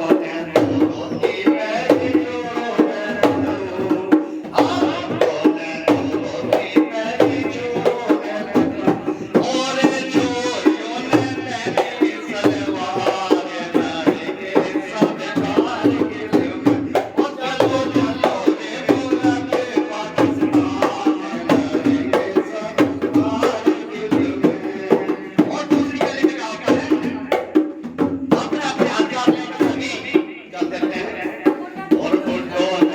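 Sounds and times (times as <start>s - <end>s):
brisk drum rhythm: 0.0s - 32.9s.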